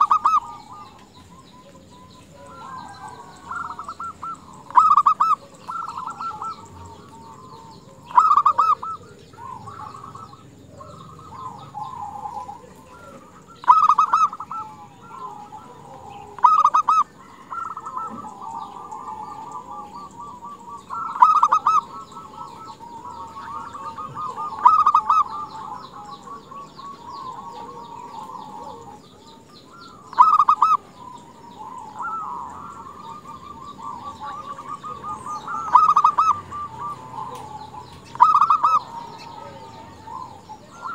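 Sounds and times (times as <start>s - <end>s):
dove trilled cooing: 0.0s - 40.9s.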